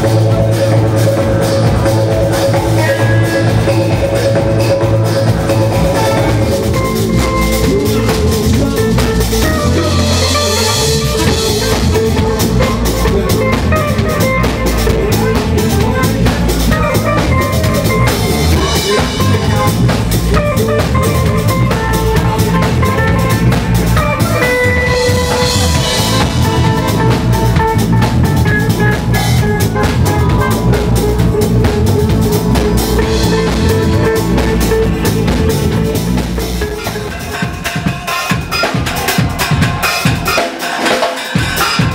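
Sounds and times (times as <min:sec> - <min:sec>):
held melodic tones: 0:00.0 - 0:39.5
bass: 0:00.0 - 0:40.7, 0:41.4 - 0:41.9
drum kit beat: 0:00.0 - 0:41.9.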